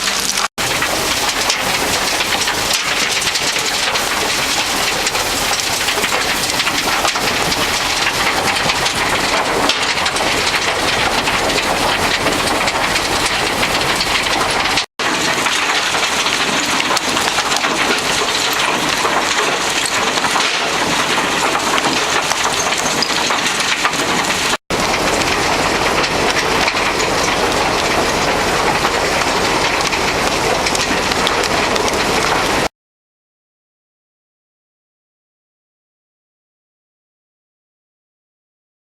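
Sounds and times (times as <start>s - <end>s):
rubble tumbling in rotating drum: 0.0s - 32.7s.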